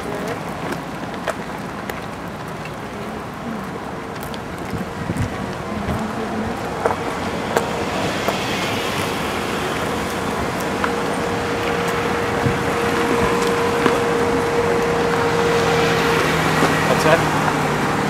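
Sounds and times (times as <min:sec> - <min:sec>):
motor vehicle running: 0:00.0 - 0:18.0.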